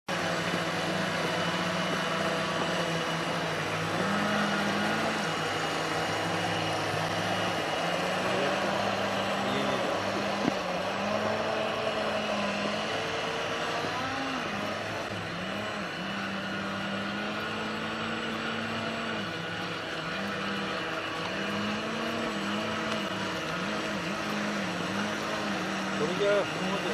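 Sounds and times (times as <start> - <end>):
model boat motors droning: 0.1 - 26.9.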